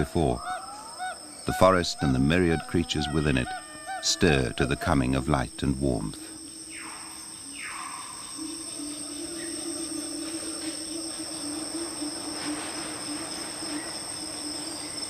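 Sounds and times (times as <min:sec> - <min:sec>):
insects droning high-pitched: 0:00.0 - 0:15.0.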